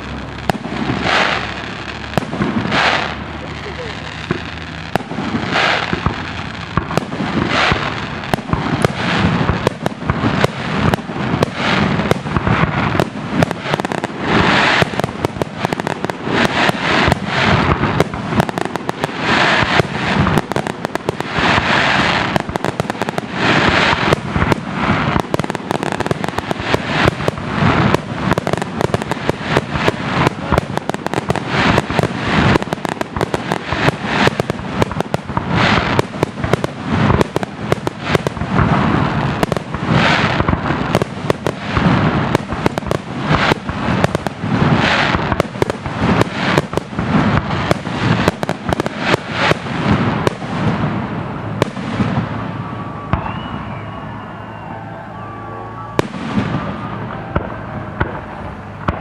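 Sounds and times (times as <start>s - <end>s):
firework bangs: 0.0s - 59.0s
firework crackling hiss: 0.0s - 59.0s.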